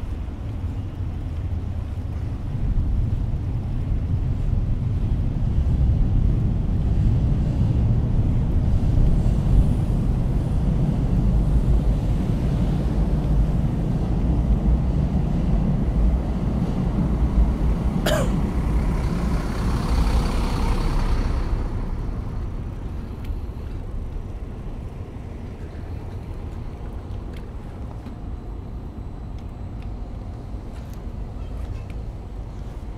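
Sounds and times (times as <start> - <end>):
heavy road traffic rumble: 0.0 - 32.9.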